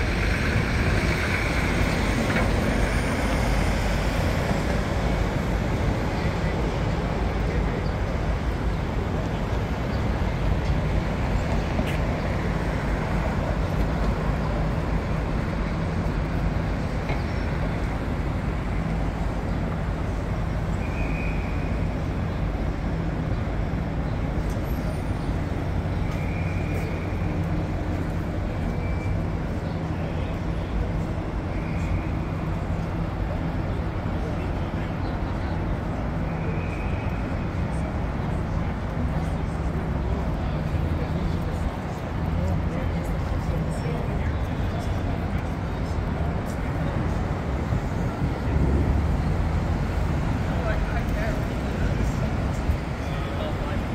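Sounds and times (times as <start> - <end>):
street traffic hum: 0.0 - 53.9.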